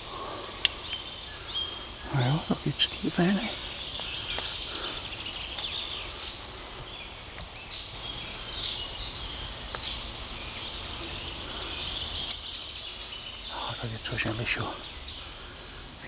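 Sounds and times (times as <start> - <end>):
low background noise: 0.0 - 16.0
songbirds chirping and trilling: 0.0 - 16.0.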